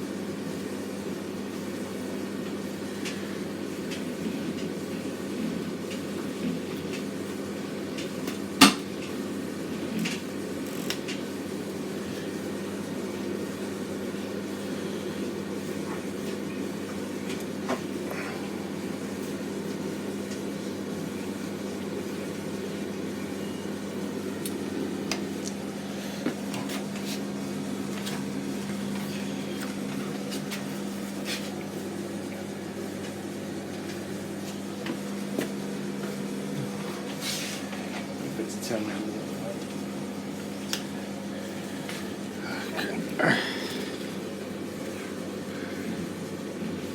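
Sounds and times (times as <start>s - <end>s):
tumble dryer humming: 0.0s - 46.9s.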